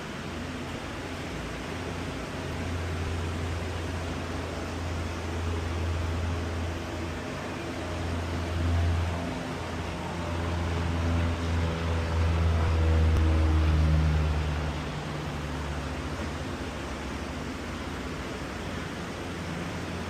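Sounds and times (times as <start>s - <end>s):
engine running low hum: 0.0s - 20.0s.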